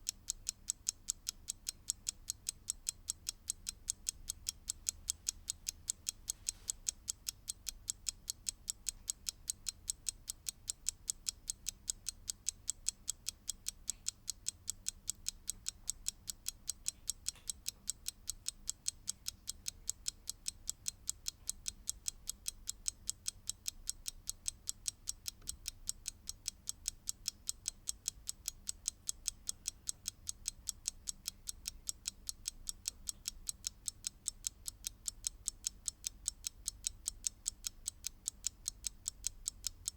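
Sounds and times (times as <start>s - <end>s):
mechanical clock ticking fast: 0.0s - 39.9s.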